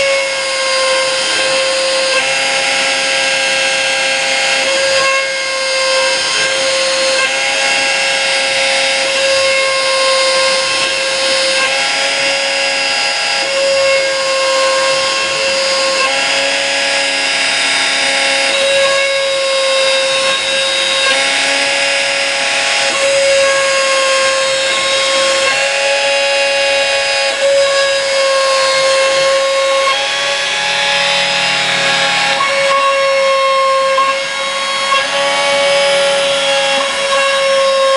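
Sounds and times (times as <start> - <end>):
cutting spindle running: 0.0 - 37.9
stepper motors whining: 0.0 - 37.9.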